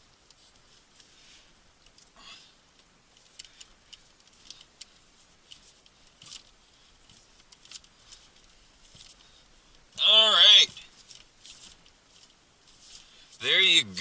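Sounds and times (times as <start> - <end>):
faint small clicks and scrapes: 0.0 - 9.9, 10.7 - 13.4.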